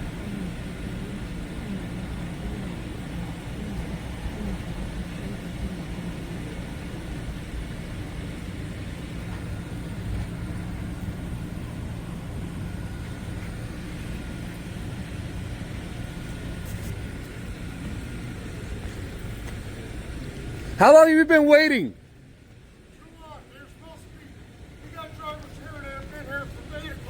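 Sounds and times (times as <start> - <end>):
faint constant hum: 0.0 - 27.0
truck engine rumbling: 0.0 - 27.0.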